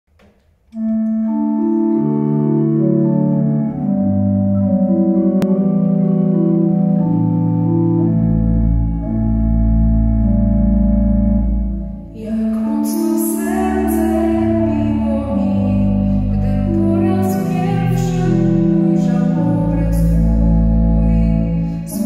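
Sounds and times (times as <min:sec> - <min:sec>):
organ-like keyboard chords: 0:00.7 - 0:22.0
deep bass: 0:02.2 - 0:22.0.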